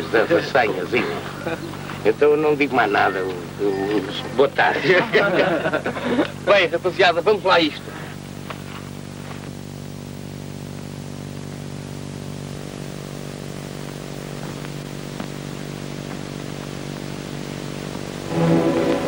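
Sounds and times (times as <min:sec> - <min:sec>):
film soundtrack hiss: 0:00.0 - 0:19.0
low electrical hum: 0:00.0 - 0:19.0.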